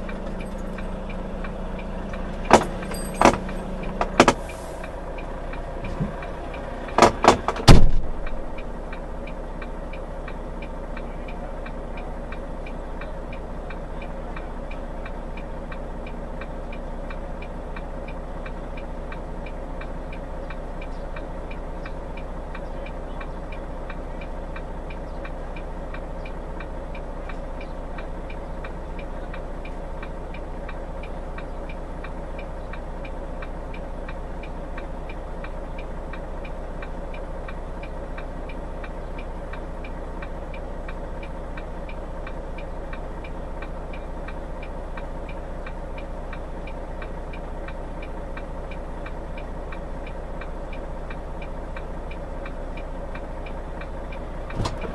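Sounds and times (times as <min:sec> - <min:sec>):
indicator relay ticking: 0:00.0 - 0:05.6, 0:08.2 - 0:54.9
car engine idling: 0:00.0 - 0:54.9.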